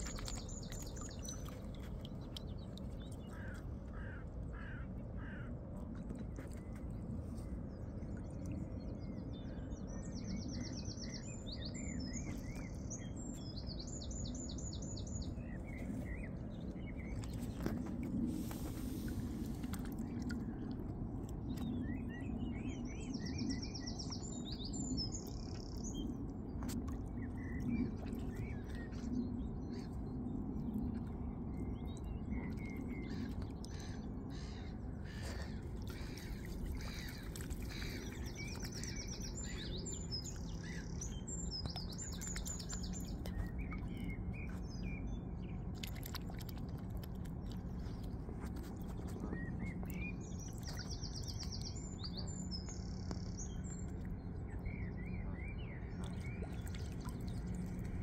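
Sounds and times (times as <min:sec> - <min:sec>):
low background rumble: 0:00.0 - 0:58.0
songbirds chirping and trilling: 0:00.0 - 0:58.0.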